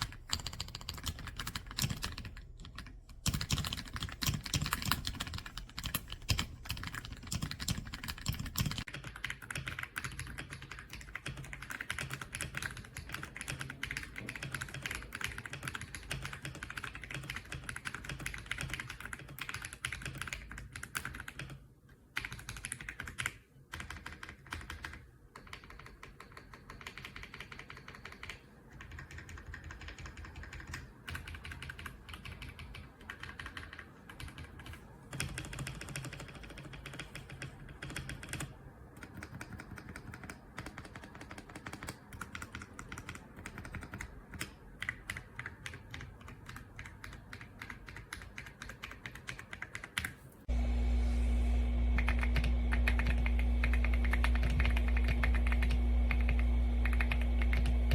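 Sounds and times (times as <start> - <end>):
mechanical keyboard typing: 0.0 - 50.2, 51.9 - 57.9.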